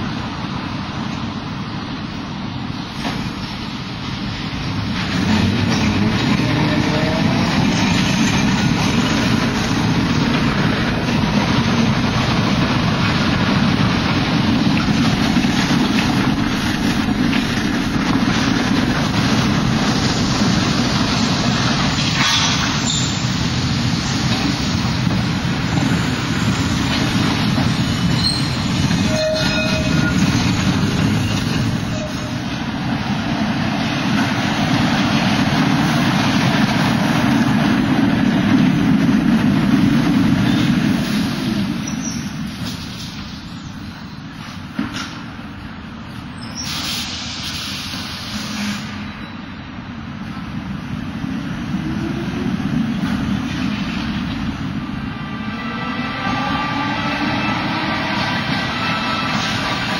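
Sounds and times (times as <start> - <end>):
tram wheels rumbling on track: 0.0 - 59.9.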